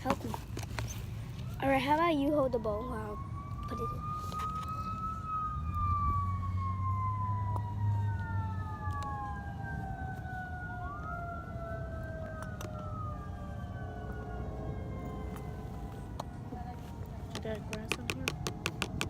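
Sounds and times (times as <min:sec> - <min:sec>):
emergency siren wailing: 0:00.0 - 0:19.0.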